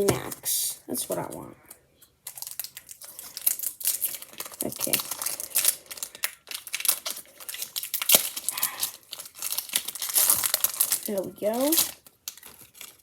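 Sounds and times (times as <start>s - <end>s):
foil wrapper crinkling: 2.2s - 13.0s.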